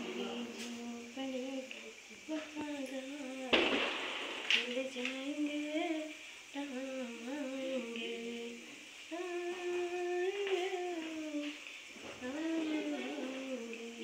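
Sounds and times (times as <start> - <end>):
woman humming: 0.0 - 3.6, 4.5 - 14.0.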